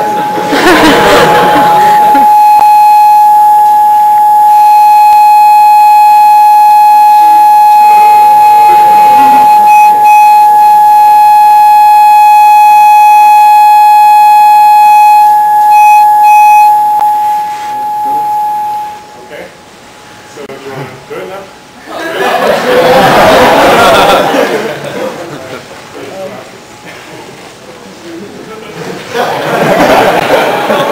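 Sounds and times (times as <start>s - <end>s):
loud steady pure tone: 0.0s - 25.0s.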